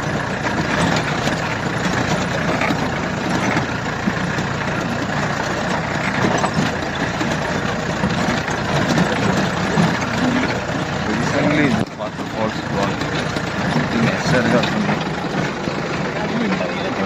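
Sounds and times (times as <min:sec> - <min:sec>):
jeep engine running: 0:00.0 - 0:17.0.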